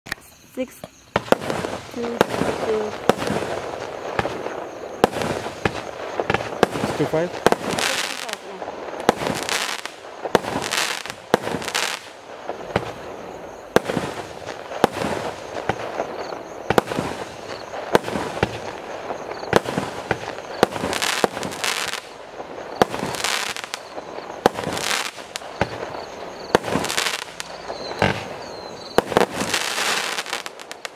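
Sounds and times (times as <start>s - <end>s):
firework shells hissing and crackling: 0.1s - 30.9s
firework reports: 0.5s - 30.9s.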